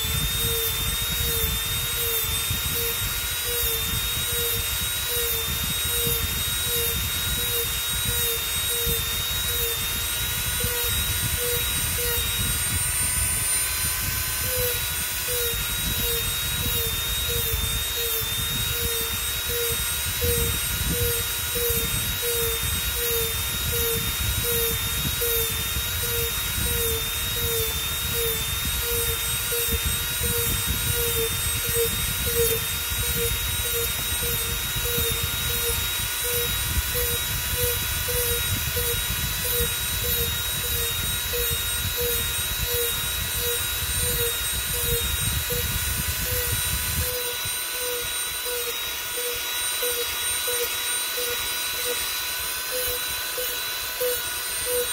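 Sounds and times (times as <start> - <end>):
rotary tool whining: 0.0 - 54.9.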